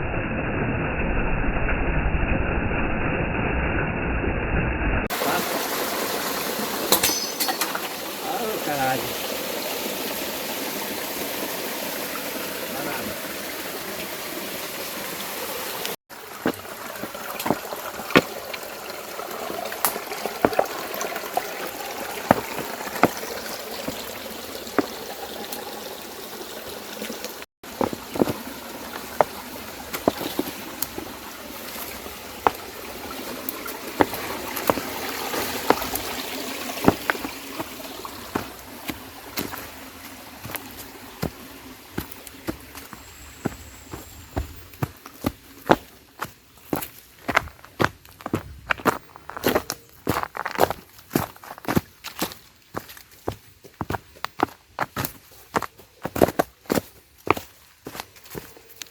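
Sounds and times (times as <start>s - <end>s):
water splashing over rocks: 5.1s - 58.9s.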